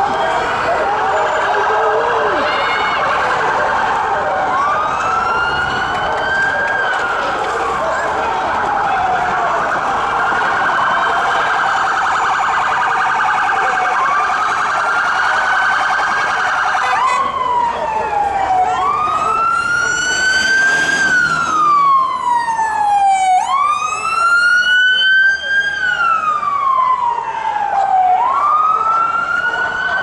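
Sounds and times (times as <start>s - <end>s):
siren fast yelp: 0.0s - 7.8s, 9.6s - 30.0s
siren slow wail: 0.0s - 30.0s.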